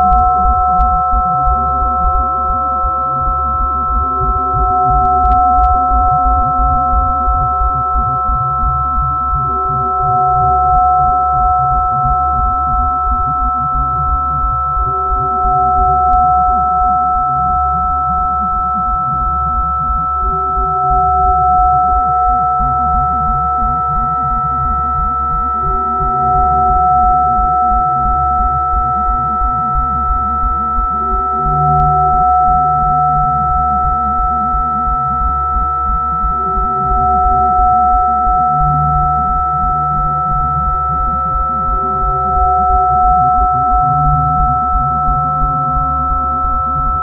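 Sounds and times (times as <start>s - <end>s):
held sine tones: 0.0s - 47.0s
pulsing low drone: 0.0s - 47.0s.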